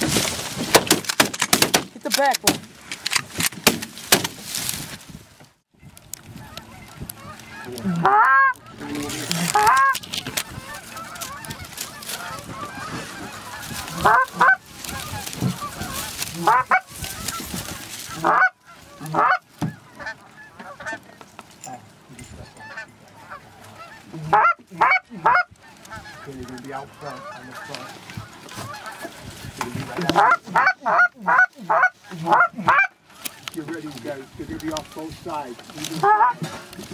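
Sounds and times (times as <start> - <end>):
goose honking: 6.3 - 36.9.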